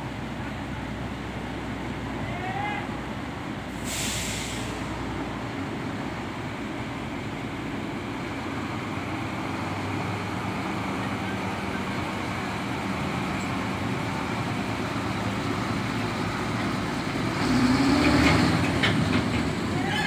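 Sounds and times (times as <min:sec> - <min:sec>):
diesel truck engine running: 0:03.0 - 0:20.0.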